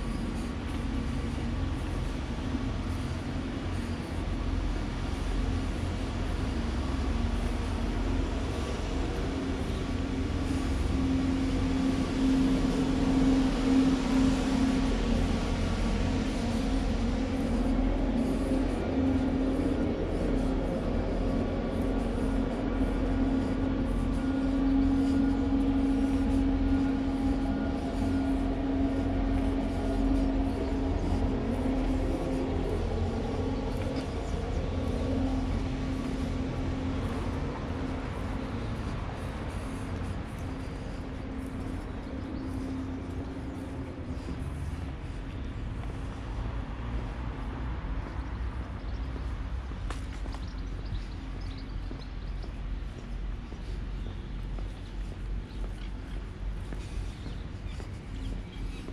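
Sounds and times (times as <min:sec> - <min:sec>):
vehicle running steadily: 0:00.0 - 0:58.9.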